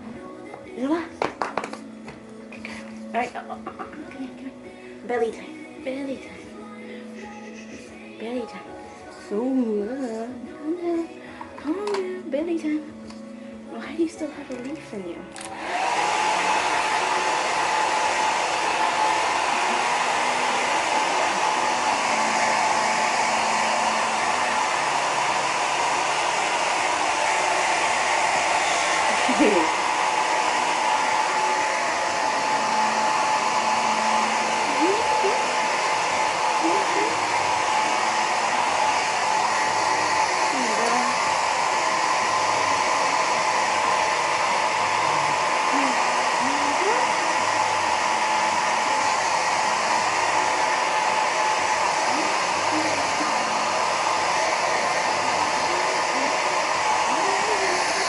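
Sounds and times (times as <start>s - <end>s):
hair dryer blowing: 0.0s - 10.3s, 11.0s - 58.0s.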